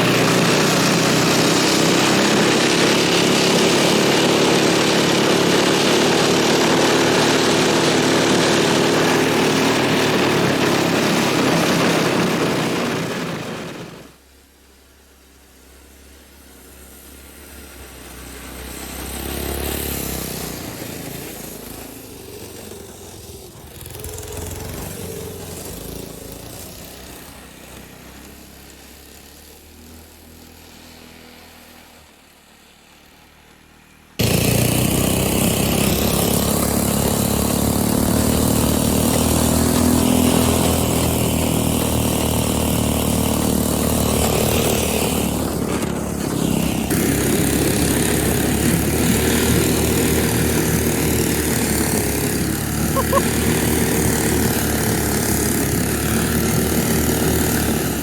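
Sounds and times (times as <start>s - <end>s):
small four-stroke engine running: 0.0s - 14.2s, 15.4s - 58.0s.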